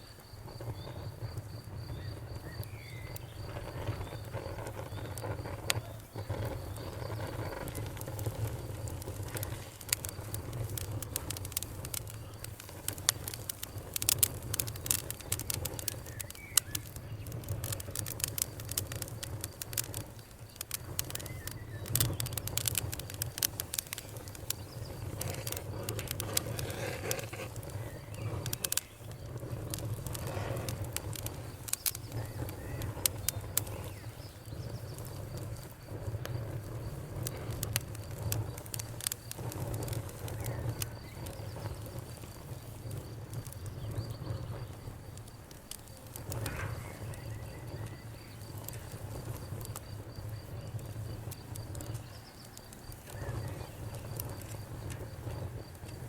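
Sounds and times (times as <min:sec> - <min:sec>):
campfire crackling: 0:00.0 - 0:56.0
low rumble of burning wood: 0:00.0 - 0:56.0
sharp snaps and pops: 0:00.0 - 0:56.0.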